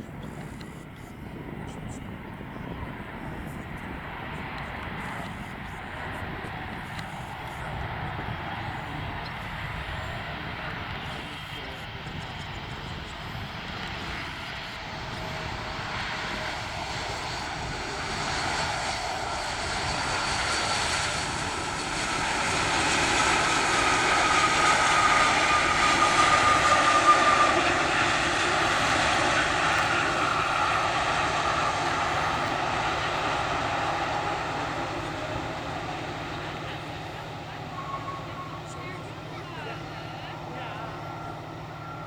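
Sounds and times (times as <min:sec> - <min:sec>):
jet airliner passing: 0:00.0 - 0:42.0.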